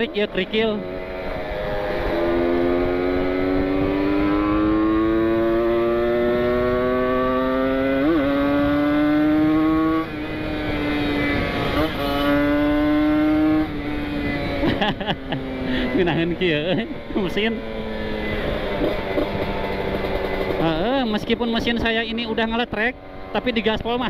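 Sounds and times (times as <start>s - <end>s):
motorcycle engine at full throttle: 0.0s - 24.0s.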